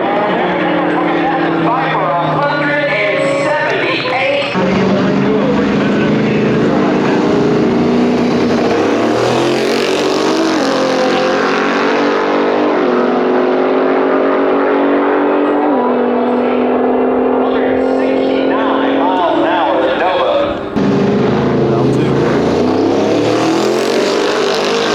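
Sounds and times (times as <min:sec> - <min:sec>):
car engine accelerating hard: 0:00.0 - 0:24.9.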